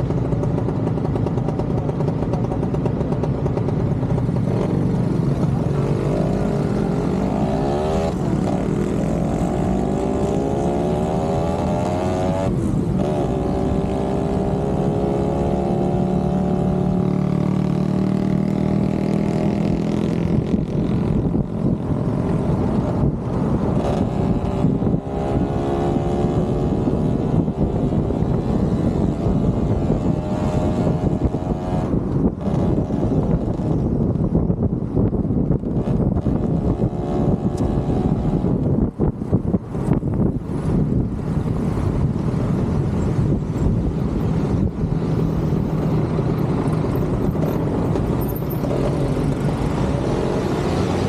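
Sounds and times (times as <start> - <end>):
motorcycle engine accelerating: 0.0 - 51.0
wind and road noise: 0.0 - 51.0.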